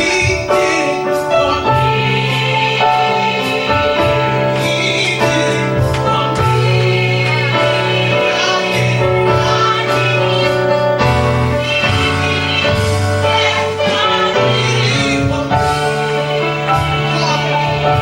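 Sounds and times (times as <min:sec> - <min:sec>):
choir singing gospel music: 0:00.0 - 0:18.0.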